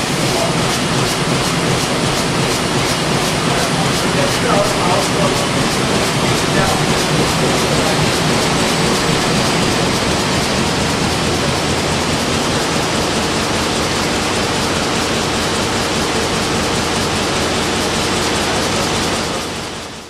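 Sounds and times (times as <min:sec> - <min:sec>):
printing press running: 0:00.0 - 0:20.0.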